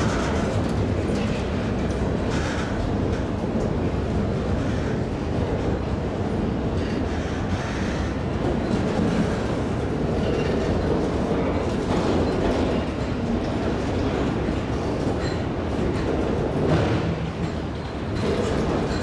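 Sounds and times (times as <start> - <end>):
freight cars rumbling on rails: 0.0 - 19.0.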